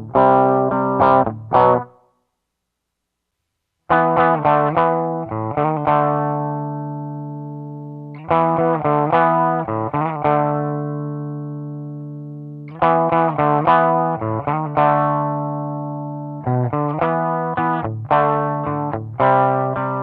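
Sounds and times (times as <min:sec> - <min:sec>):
electric guitar chords ringing: 0:00.0 - 0:02.0, 0:03.9 - 0:20.0.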